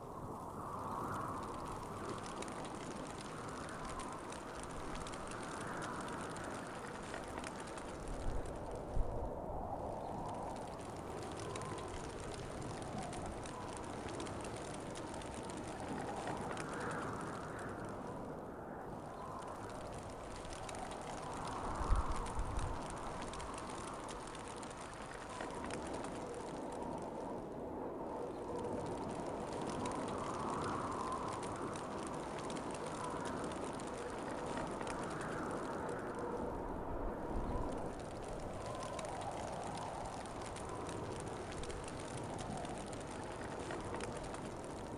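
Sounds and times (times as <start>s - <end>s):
wind blowing: 0.0s - 44.9s
light fine ticking: 0.1s - 27.4s, 28.1s - 44.9s.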